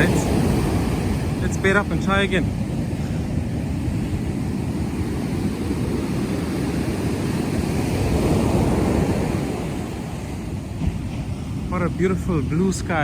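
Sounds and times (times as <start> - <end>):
surf washing on beach: 0.0 - 13.0
wind rumble on microphone: 0.0 - 13.0.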